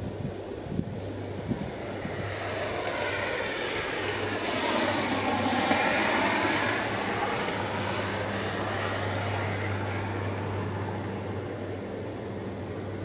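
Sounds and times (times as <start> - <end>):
diesel locomotive engine hum: 0.0 - 13.0.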